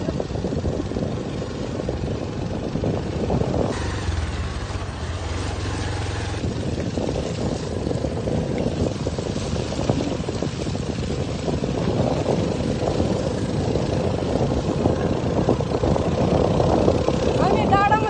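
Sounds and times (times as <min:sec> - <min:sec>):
road rumble: 0:00.0 - 0:18.0
vehicle engine drone: 0:00.0 - 0:18.0
wind: 0:00.0 - 0:18.0.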